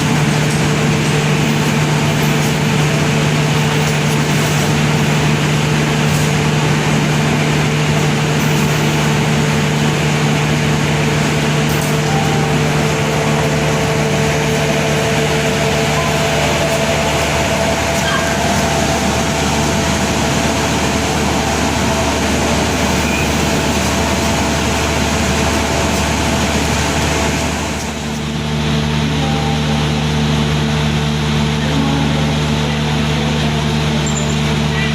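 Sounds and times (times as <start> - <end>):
constant hum: 0.0 - 34.9
moving passenger train: 0.0 - 34.9.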